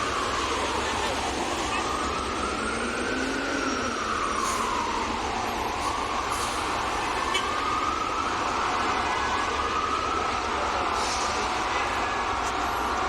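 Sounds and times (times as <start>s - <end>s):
city traffic: 0.0s - 13.0s
emergency siren wailing: 0.0s - 13.0s.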